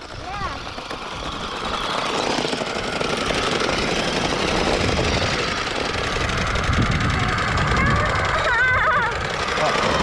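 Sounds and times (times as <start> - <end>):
toy truck electric motor whining: 0.0 - 10.0
tyres grinding on concrete: 0.0 - 10.0.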